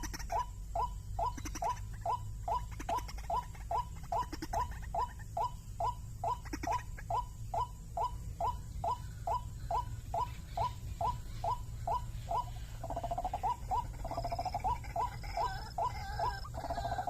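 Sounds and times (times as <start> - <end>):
steady low hum: 0.0 - 17.0
waterhen calling: 0.0 - 17.0.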